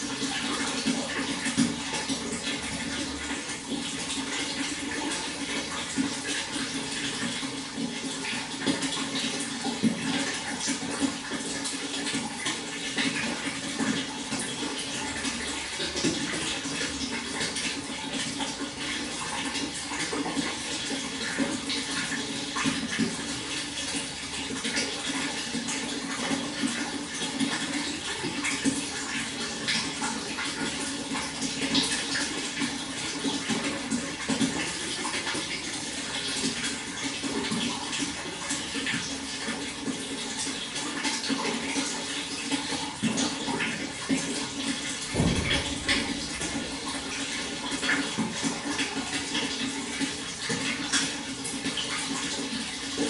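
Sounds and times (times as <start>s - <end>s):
water flowing and splashing: 0.0s - 53.0s.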